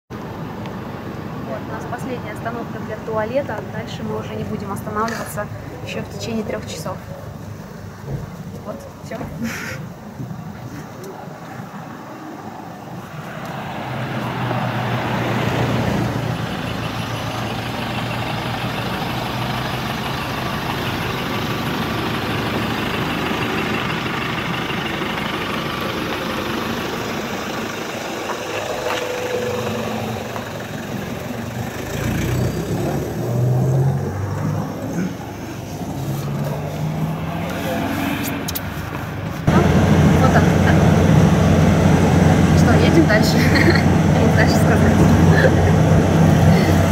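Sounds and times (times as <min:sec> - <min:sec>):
truck engine and road noise: 0:00.1 - 0:46.9.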